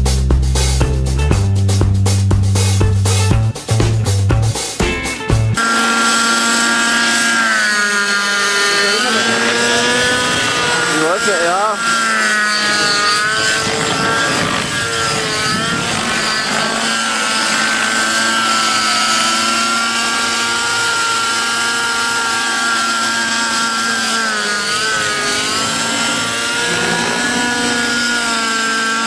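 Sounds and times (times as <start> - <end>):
model helicopter whine: 5.6 - 29.0.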